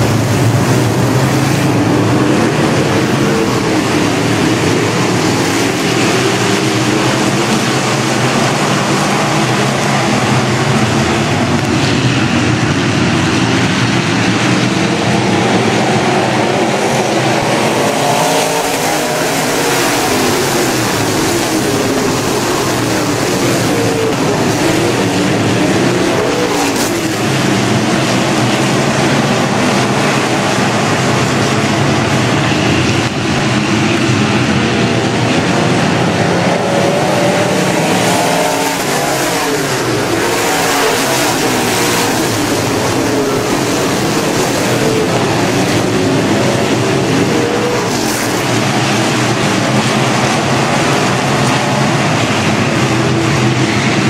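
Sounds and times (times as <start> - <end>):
race car engines roaring: 0.0 - 54.0.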